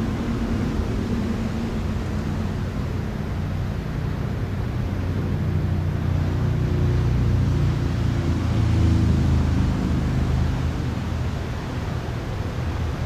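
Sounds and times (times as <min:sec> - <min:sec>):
low motor rumble with hum: 0:00.0 - 0:13.0.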